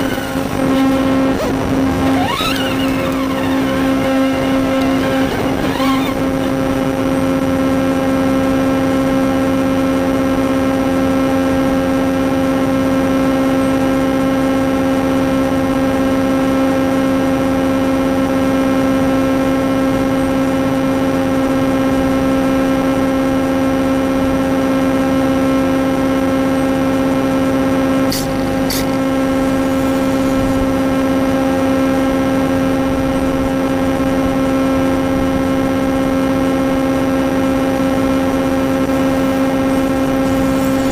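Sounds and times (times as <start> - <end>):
steady hum with overtones: 0.0 - 40.9.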